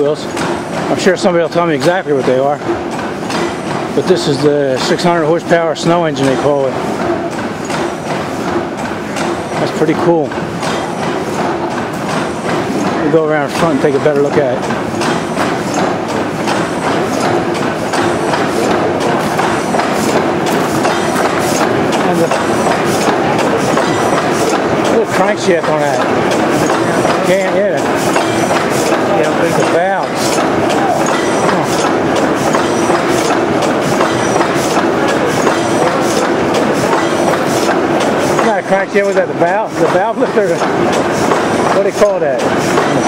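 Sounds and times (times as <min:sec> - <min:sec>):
engine mechanical clatter and knocking: 0:00.0 - 0:43.0.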